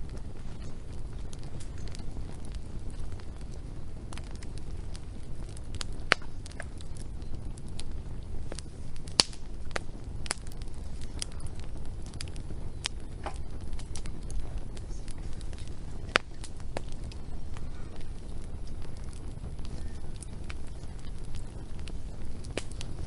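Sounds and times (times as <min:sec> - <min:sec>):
fire low rumble: 0:00.0 - 0:23.0
wood fire crackling: 0:00.0 - 0:23.0.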